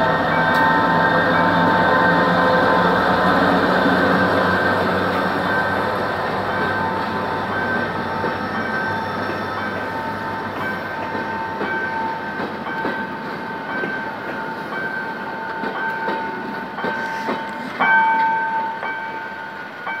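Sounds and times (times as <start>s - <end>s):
train wheels clacking over rail joints: 0.4s - 18.6s.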